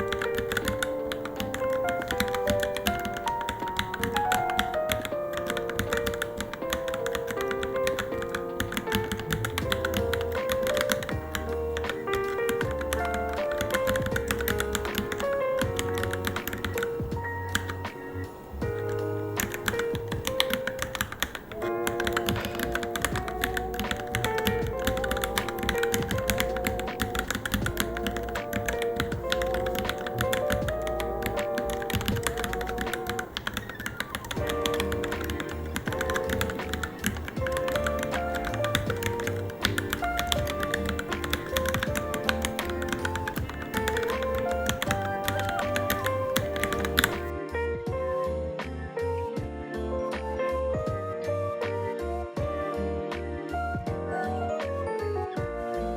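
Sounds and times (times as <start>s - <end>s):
fast keyboard typing clicks: 0.0s - 17.9s, 18.6s - 47.3s
background music with beat: 0.0s - 55.9s.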